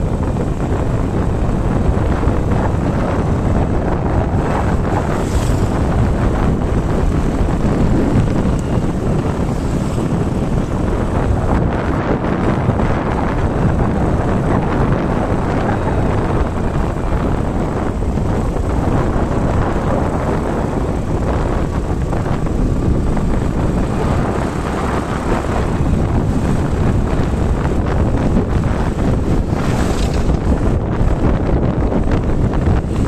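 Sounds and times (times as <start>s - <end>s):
vehicle moving along road: 0.0s - 33.0s
wind buffeting microphone: 0.0s - 33.0s.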